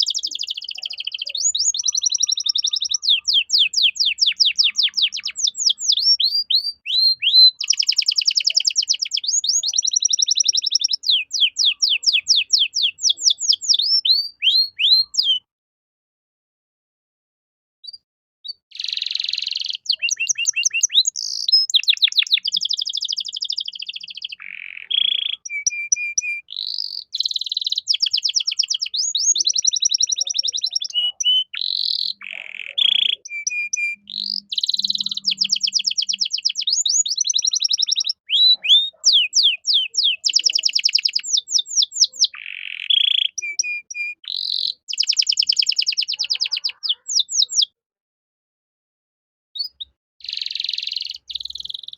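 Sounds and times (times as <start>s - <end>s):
canary singing trills: 0.0s - 15.5s, 17.8s - 47.8s, 49.6s - 51.9s.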